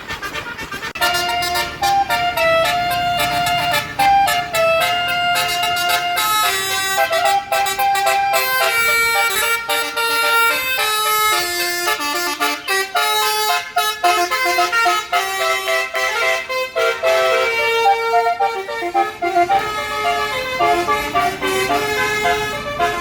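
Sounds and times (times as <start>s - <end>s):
multi-tone bus horn tune: 0.0s - 23.0s.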